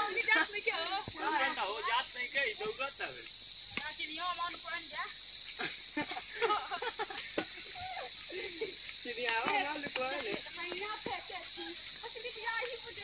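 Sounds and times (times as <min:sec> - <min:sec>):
children calling out: 0:00.0 - 0:13.0
insects droning: 0:00.0 - 0:13.0.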